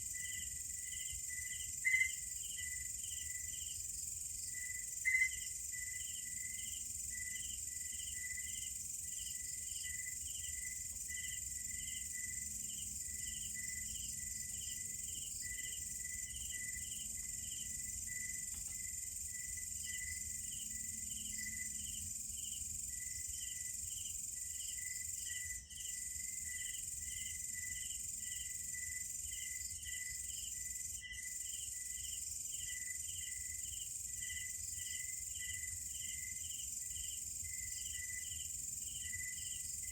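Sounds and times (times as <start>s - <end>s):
crickets chirping: 0.0s - 39.9s
high-pitched insect trill: 0.0s - 39.9s.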